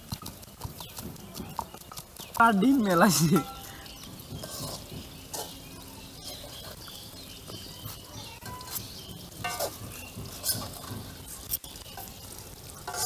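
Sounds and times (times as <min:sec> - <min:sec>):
pestle grinding in mortar: 0:00.0 - 0:11.7.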